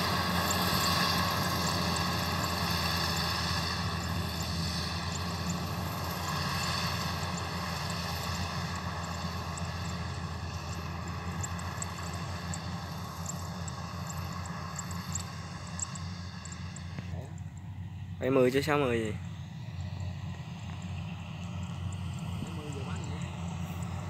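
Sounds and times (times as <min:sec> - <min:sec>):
combine harvester diesel drone: 0:00.0 - 0:24.0.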